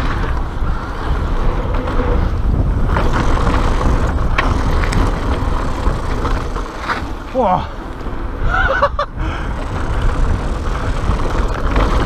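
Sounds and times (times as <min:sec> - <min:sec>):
bike rattling: 0:00.0 - 0:12.0
tyres rolling over gravel: 0:00.0 - 0:12.0
wind rumbling on microphone: 0:00.0 - 0:12.0.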